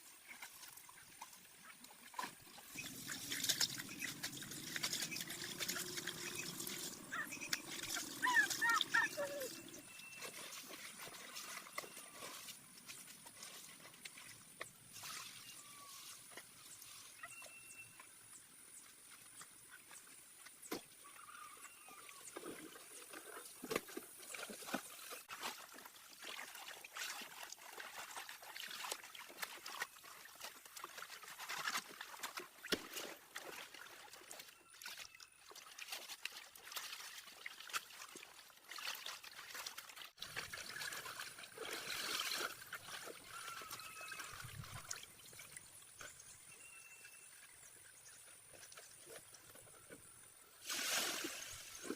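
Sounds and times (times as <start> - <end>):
water trickling and splashing: 0.0 - 51.9.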